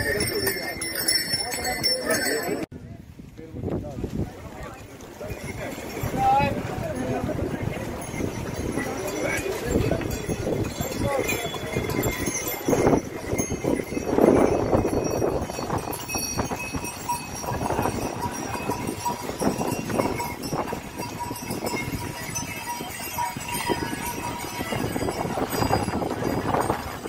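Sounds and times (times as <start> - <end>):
hooves clip-clopping: 3.2 - 27.0.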